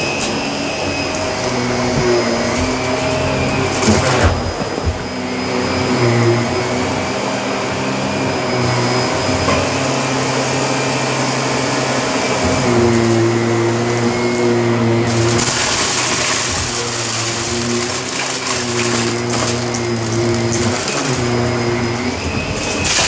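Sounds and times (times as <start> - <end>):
vacuum cleaner motor hum: 0.0 - 23.0.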